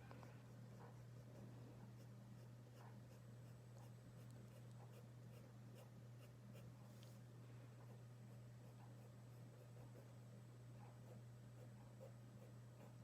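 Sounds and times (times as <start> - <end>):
low electrical hum: 0.0 - 13.0
pencil scratching on paper: 0.4 - 6.7, 7.8 - 10.2, 10.9 - 13.0.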